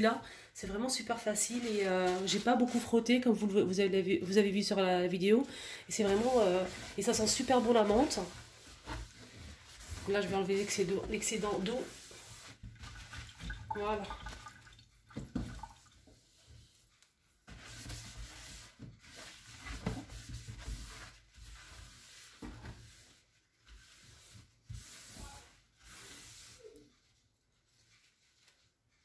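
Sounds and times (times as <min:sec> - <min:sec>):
cloth wiping wet steel sink: 0:00.6 - 0:05.1, 0:05.9 - 0:29.0.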